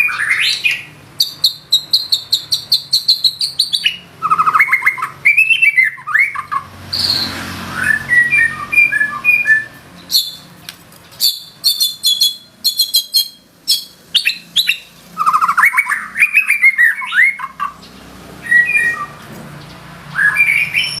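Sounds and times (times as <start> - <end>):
bird singing varied song: 0.0 - 21.0.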